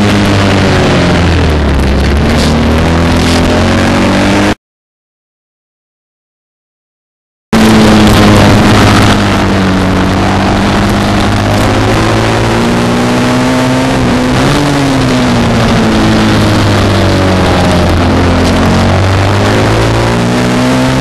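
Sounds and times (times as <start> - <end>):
racing motorcycle engine: 0.0 - 4.6, 7.6 - 21.0.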